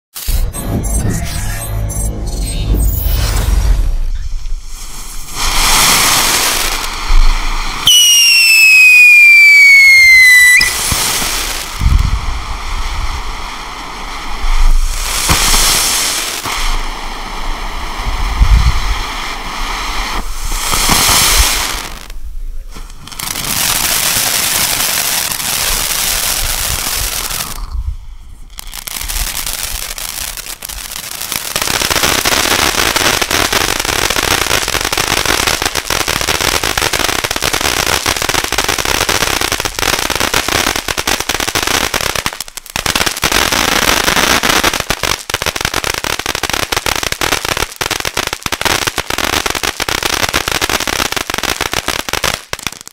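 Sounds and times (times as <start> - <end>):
dense firework crackling: 3.0 - 52.9
firework fountain hissing: 4.0 - 52.9.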